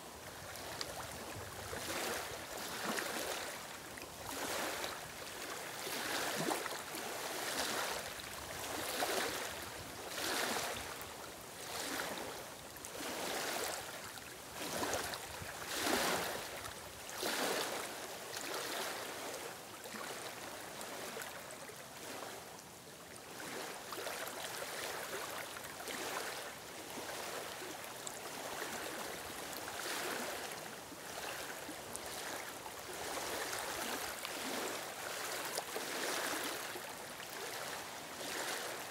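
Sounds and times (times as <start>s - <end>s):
waves lapping on stony shore: 0.0s - 38.9s.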